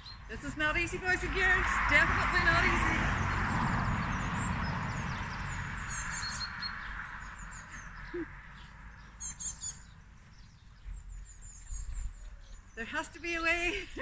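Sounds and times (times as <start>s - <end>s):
small birds chirping: 0.0s - 1.6s, 2.4s - 14.0s.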